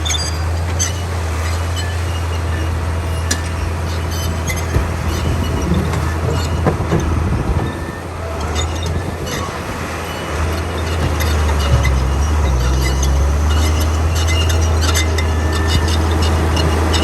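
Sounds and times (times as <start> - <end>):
bulldozer diesel engine running: 0.0 - 17.0
clicks and knocks: 0.0 - 17.0.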